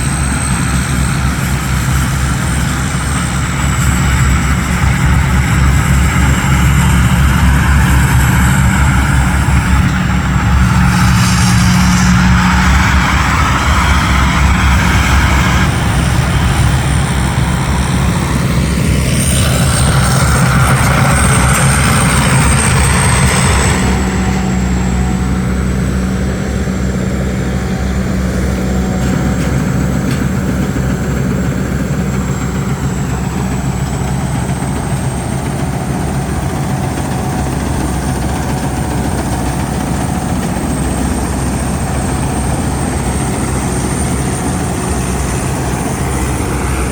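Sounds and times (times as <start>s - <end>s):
combine harvester diesel engine: 0.0s - 46.9s
high whine: 0.0s - 46.9s.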